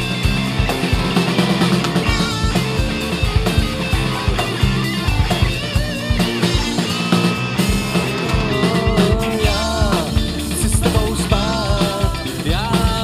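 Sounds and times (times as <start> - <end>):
wavering high lead line: 0.0 - 12.6
rock band playing: 0.0 - 13.0.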